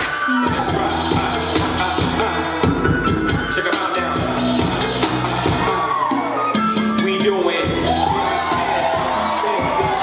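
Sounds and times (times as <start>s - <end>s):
music with drum beat and bass: 0.0s - 10.0s.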